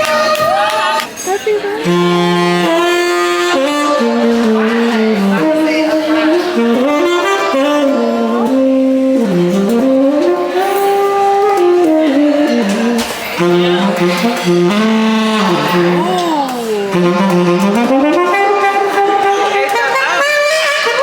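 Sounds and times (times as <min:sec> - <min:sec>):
saxophone jazz melody: 0:01.5 - 0:21.0.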